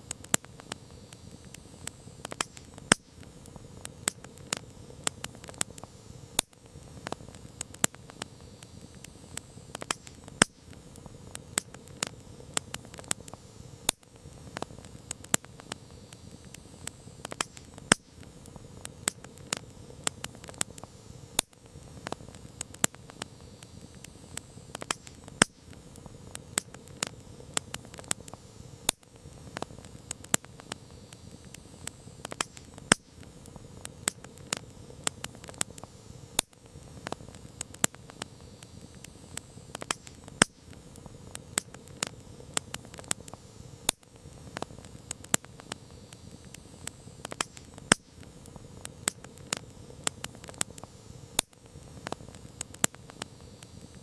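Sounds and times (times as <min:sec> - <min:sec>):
campfire crackling and popping: 0:00.0 - 0:54.0
hiss of flames: 0:00.0 - 0:54.0.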